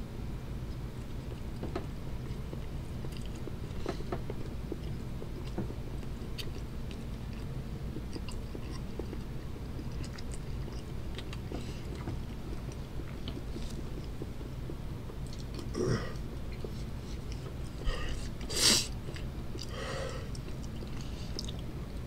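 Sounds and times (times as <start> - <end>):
chewing crunchy candy bar: 2.2 - 22.0.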